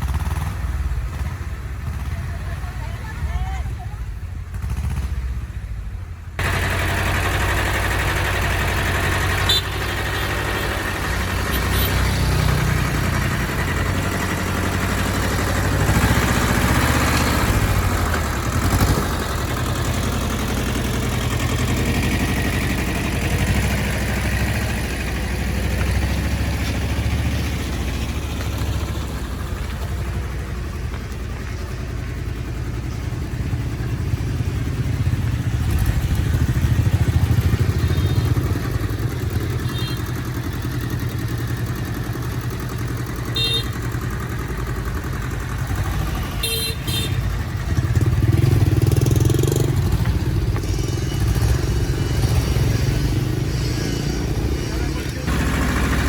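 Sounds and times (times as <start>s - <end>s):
engine idling: 6.0s - 56.0s.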